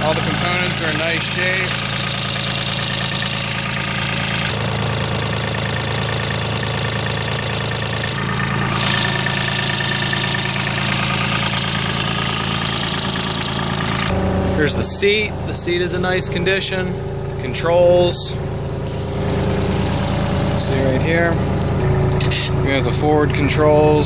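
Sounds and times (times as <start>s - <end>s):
excavator diesel engine idling: 0.0s - 24.0s.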